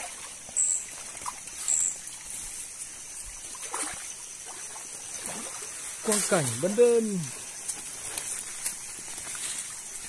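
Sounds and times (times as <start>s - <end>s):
stream trickling over rocks: 0.0s - 10.0s.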